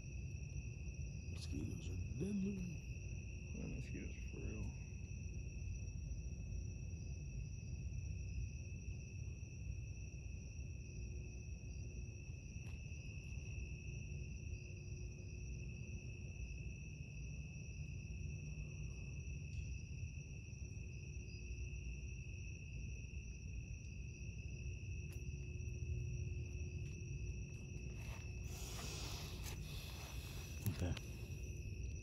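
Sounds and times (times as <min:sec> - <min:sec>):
crickets trilling: 0:00.0 - 0:32.0.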